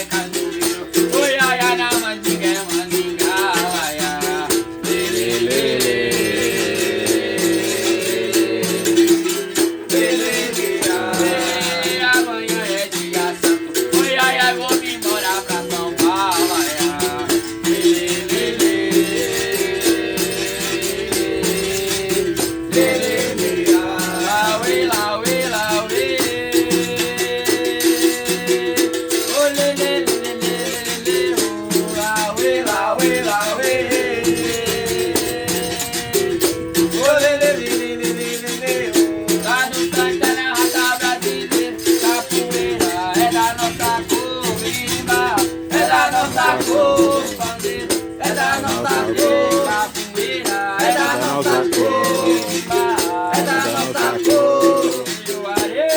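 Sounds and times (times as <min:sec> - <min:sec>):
rattle shaking: 0:00.0 - 0:55.9.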